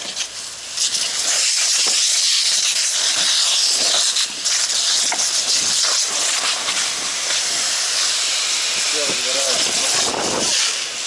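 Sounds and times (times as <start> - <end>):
fire hose spraying water: 0.0 - 11.0.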